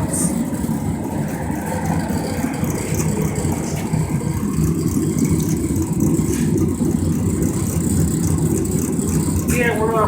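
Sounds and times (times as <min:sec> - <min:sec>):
furnace burner rumbling: 0:00.0 - 0:10.0.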